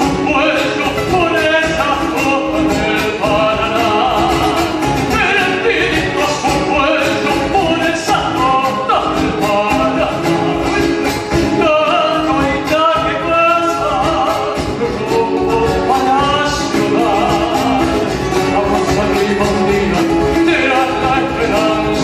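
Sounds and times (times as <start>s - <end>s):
instrumental accompaniment: 0.0s - 22.0s
person singing with vibrato: 0.0s - 22.0s.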